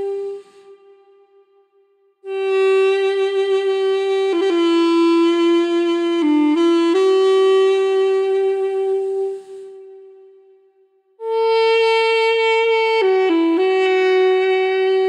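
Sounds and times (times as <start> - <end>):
solo wind instrument melody: 0.0 - 15.0.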